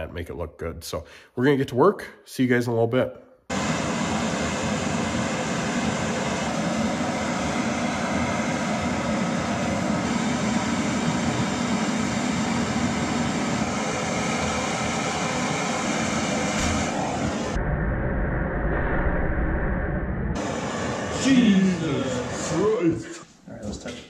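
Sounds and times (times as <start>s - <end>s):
gas torch flame roaring: 3.5s - 23.2s.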